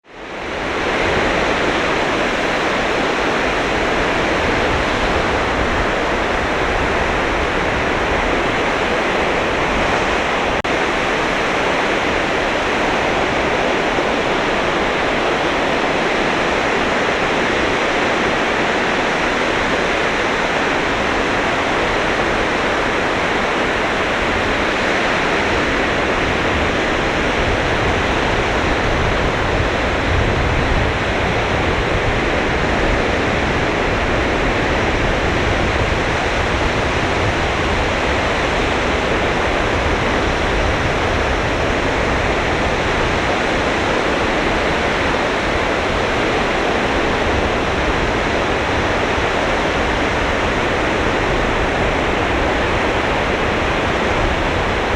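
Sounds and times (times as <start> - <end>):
sea surf breaking on beach: 0.0 - 54.9.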